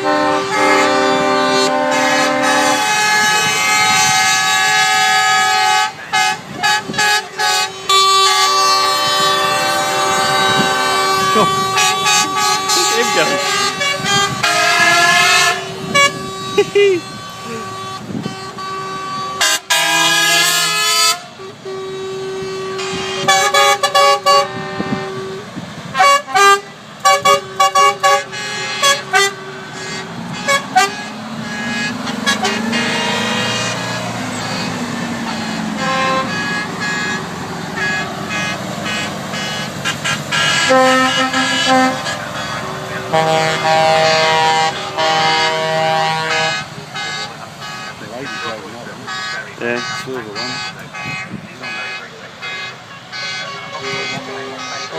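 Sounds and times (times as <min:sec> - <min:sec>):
truck engine passing: 0:00.0 - 0:54.9
truck horns tooting: 0:00.0 - 0:54.9.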